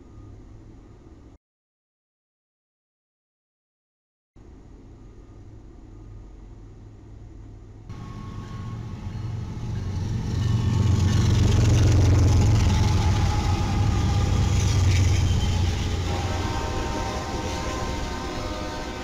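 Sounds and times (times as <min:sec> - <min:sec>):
diesel locomotive engines humming: 0:00.0 - 0:01.4, 0:04.4 - 0:19.0.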